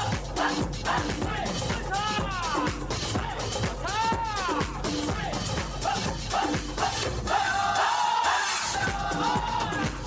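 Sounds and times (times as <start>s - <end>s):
steady drum beat: 0.0s - 7.9s, 8.6s - 10.0s.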